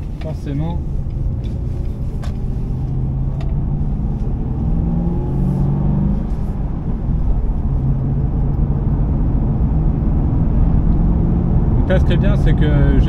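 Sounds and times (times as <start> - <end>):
car engine burbling: 0.0 - 13.0
road rumble: 0.0 - 13.0.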